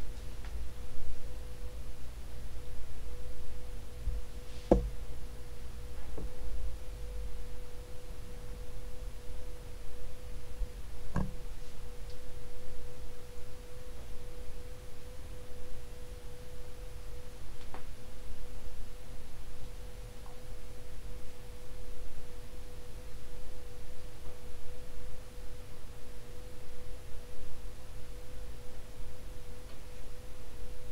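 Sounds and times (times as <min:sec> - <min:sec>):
ceiling fan motor hum: 0:00.0 - 0:30.9.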